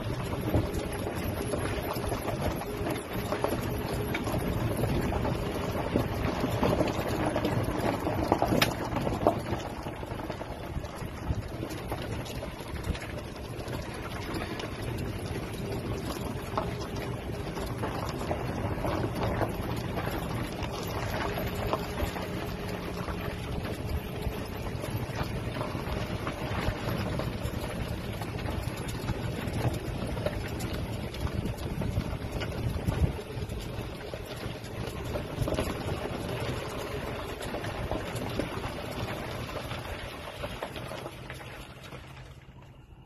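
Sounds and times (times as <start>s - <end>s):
wind buffeting microphone: 0.0s - 39.8s.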